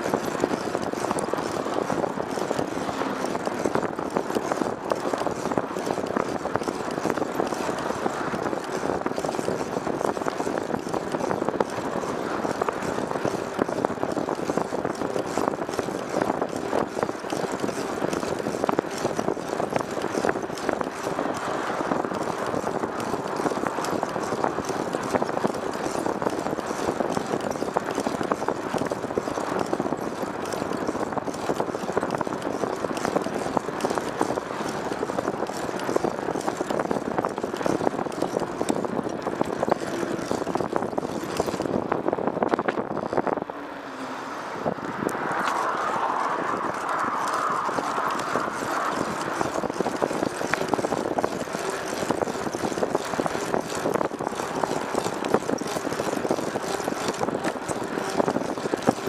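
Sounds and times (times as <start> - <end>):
moving vehicle drone: 0.0 - 59.0
wind crackling on microphone: 0.0 - 59.0.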